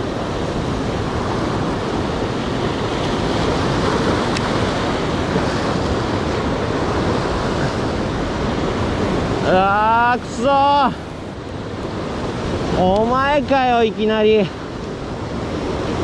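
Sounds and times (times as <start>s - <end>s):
wind on microphone: 0.0s - 13.0s
surf washing against rocks: 0.0s - 16.0s.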